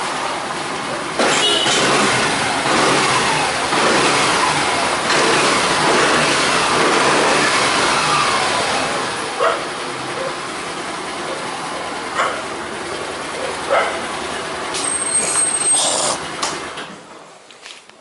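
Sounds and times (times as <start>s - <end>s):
scooter engine revving and idling: 0.0s - 17.3s.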